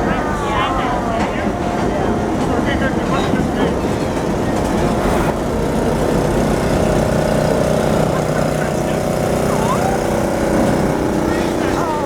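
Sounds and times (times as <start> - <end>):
locomotive engine droning: 0.0 - 12.0.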